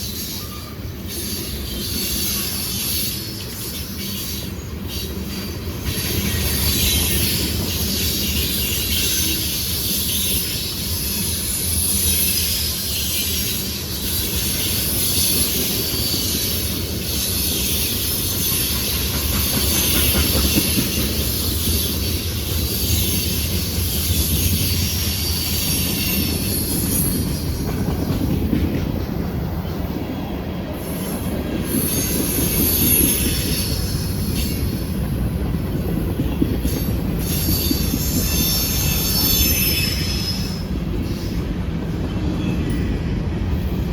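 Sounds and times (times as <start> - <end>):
train rumbling: 0.0 - 43.9
train wheels squealing on rail: 0.0 - 43.9.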